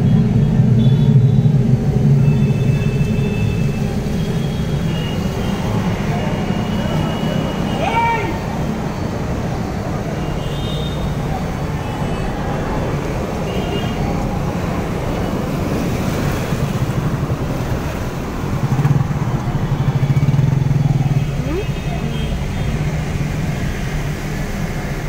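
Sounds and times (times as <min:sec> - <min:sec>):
bus engine rumbling: 0:00.0 - 0:25.0
vehicle engines running: 0:00.0 - 0:25.0
water sloshing under wheels: 0:01.5 - 0:25.0.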